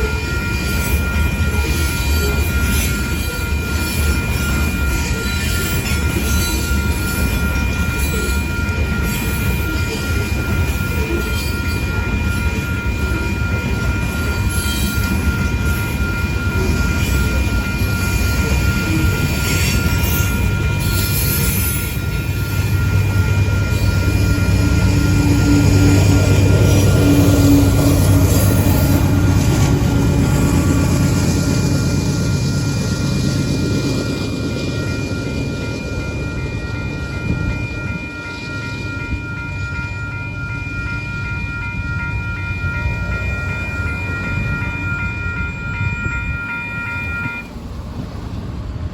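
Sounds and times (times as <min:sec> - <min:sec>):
diesel locomotive drone: 0:00.0 - 0:48.9
train wheels rumbling on rail: 0:00.0 - 0:48.9
thin squealing tones: 0:00.2 - 0:39.6.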